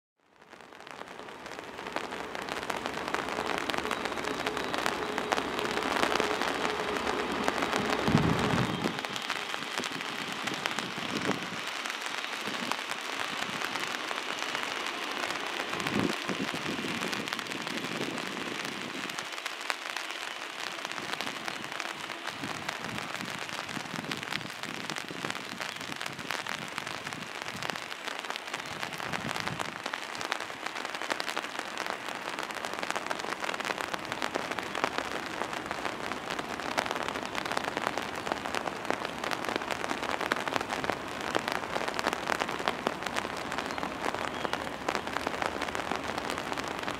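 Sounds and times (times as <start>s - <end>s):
rain falling: 0.2s - 46.9s.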